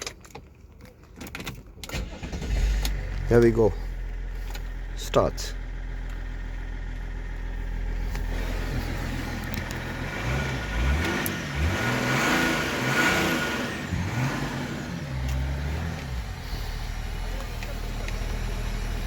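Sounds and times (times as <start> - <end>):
car engine revving: 1.9 - 19.0.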